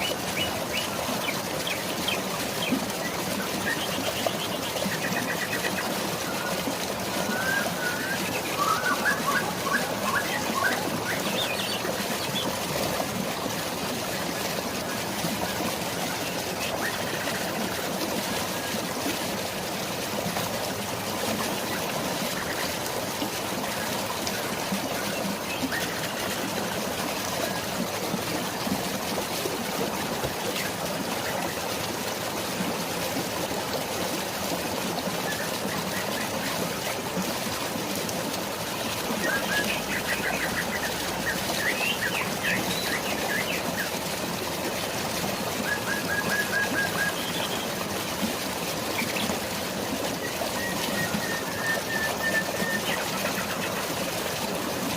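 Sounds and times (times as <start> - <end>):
flowing water: 0.0 - 54.9.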